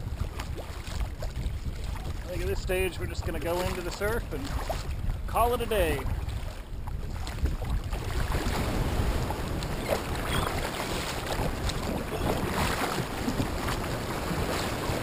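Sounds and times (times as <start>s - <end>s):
paddle strokes splashing: 0.0s - 15.0s
water sloshing against hull: 0.0s - 15.0s
wind rumble on microphone: 0.0s - 15.0s.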